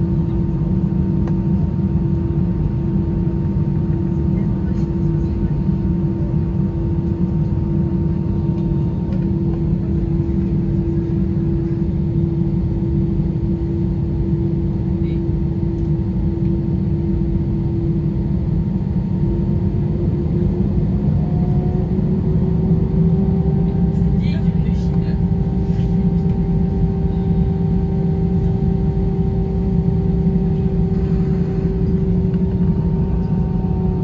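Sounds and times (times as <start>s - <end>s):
jet engine cabin rumble: 0.0s - 34.0s
steady engine hum: 0.0s - 34.0s.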